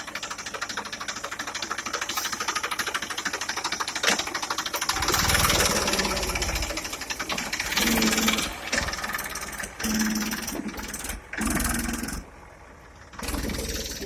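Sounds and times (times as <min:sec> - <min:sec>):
tractor diesel engine knocking: 0:00.0 - 0:14.0.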